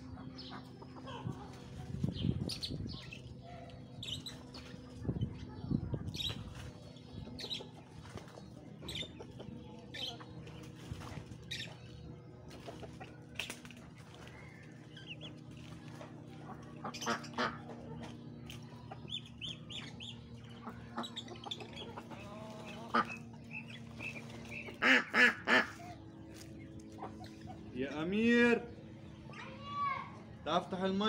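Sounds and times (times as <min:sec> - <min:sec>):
chickens clucking and calling: 0:00.0 - 0:27.7.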